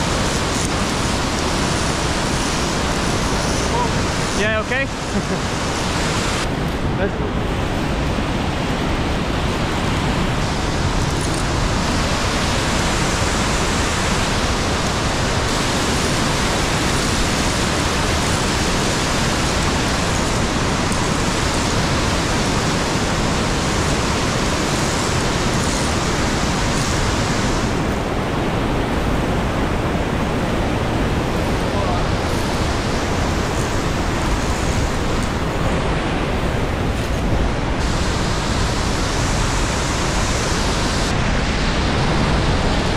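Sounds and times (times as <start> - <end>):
waterfall rushing over rocks: 0.0 - 42.9.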